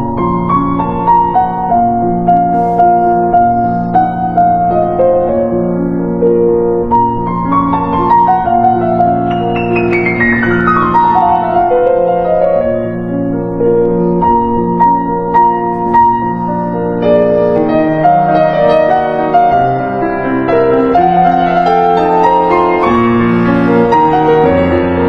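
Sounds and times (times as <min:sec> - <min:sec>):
piano background music: 0:00.0 - 0:25.0.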